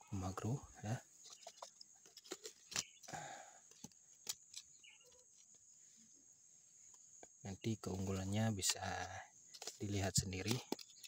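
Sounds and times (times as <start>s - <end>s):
faint bird chirp: 0.0s - 11.0s.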